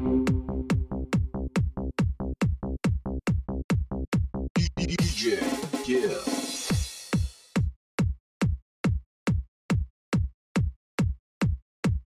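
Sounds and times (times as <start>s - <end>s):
electronic kick drum beats: 0.0s - 12.0s.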